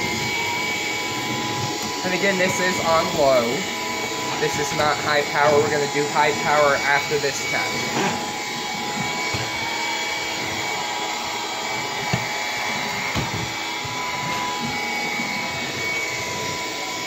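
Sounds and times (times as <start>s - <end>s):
vacuum motor whine and airflow: 0.0s - 17.0s.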